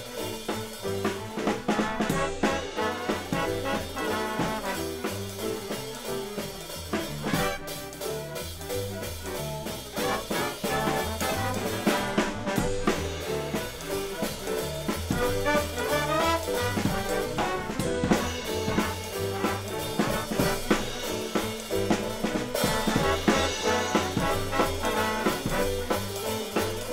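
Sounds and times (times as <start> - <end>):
swing jazz band music: 0.0 - 26.9.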